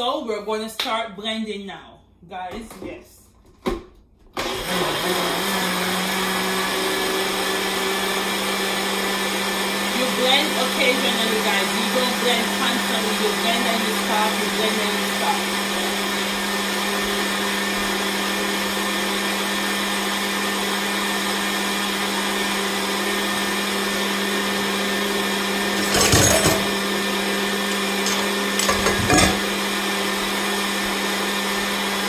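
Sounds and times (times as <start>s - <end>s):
blender running: 4.4s - 32.0s.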